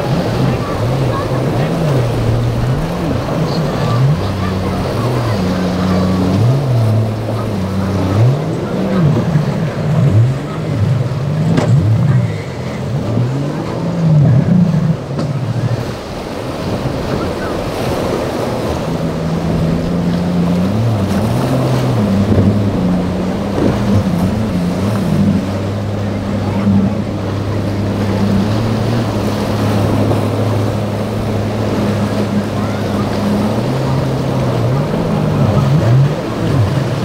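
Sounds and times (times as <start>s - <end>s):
boat engines revving: 0.0s - 37.0s
surf washing: 0.0s - 37.0s
wind: 0.0s - 37.0s.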